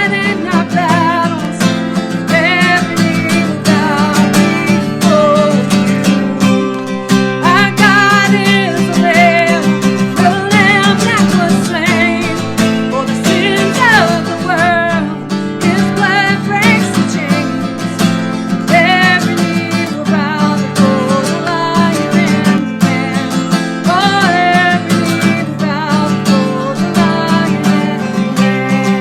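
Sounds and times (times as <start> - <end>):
acoustic guitar strumming: 0.0 - 29.0
person singing: 0.0 - 29.0.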